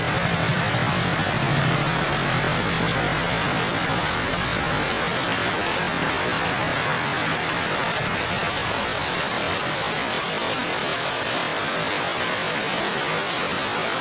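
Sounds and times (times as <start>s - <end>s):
heavy rain on foliage and paving: 0.0s - 14.0s.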